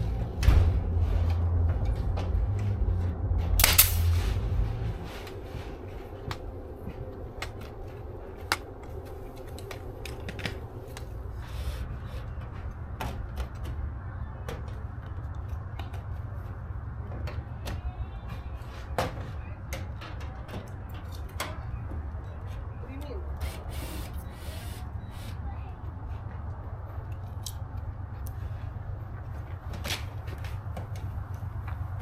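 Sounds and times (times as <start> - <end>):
steady low rumble: 0.0 - 23.4, 24.2 - 32.0.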